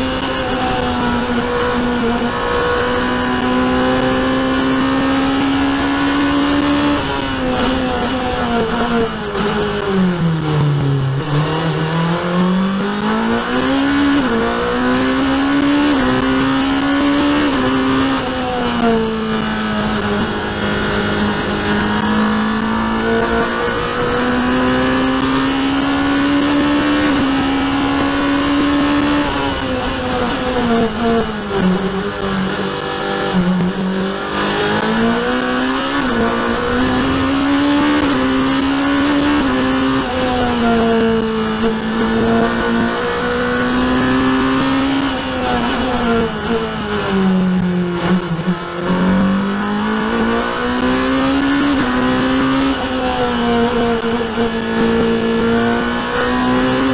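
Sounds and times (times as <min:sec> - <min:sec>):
race car engine: 0:00.0 - 0:56.9.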